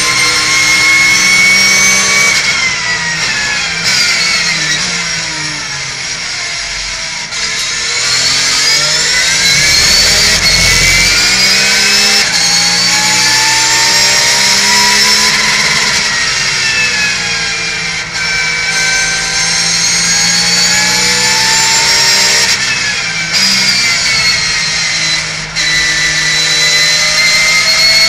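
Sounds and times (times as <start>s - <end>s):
race car engine at full throttle: 0.0s - 28.0s.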